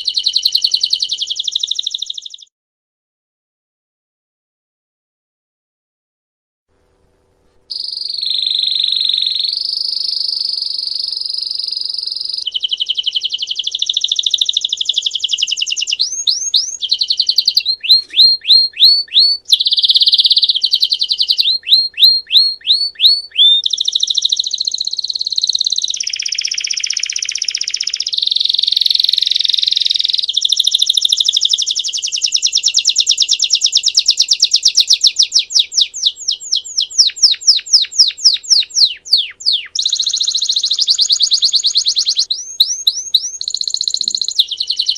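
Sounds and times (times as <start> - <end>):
canary singing trills: 0.0 - 2.5, 7.7 - 44.9.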